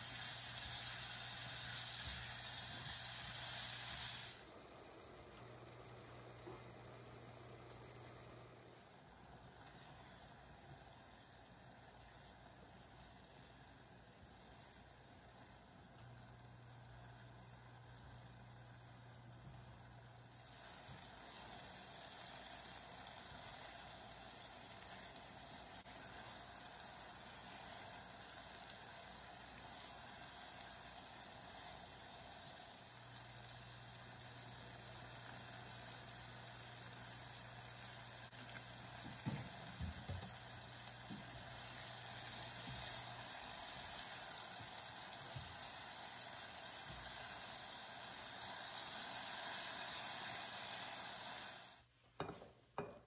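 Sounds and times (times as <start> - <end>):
apples sizzling in pan: 0.0 - 53.0.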